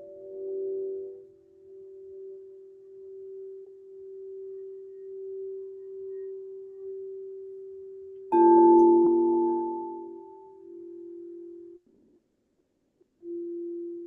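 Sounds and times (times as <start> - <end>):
singing bowl ringing: 0.0 - 11.8.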